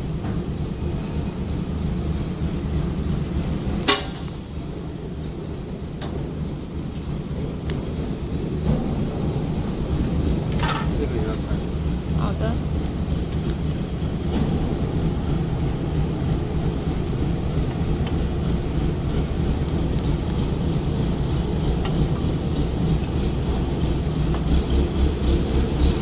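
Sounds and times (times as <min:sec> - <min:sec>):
factory machinery rumbling: 0:00.0 - 0:26.0.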